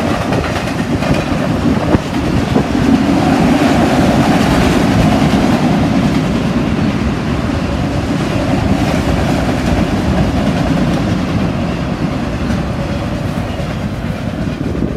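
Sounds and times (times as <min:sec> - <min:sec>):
freight train rumbling past: 0:00.0 - 0:14.9
wheels clacking over rails: 0:00.0 - 0:14.9.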